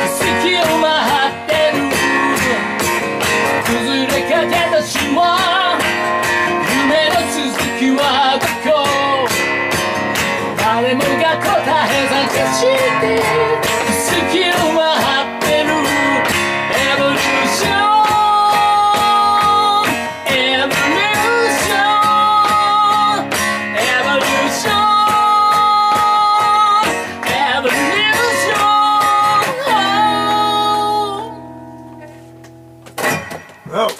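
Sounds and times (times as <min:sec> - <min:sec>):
man singing: 0:00.0 - 0:09.5, 0:10.4 - 0:31.4
acoustic guitar strumming: 0:00.0 - 0:33.9.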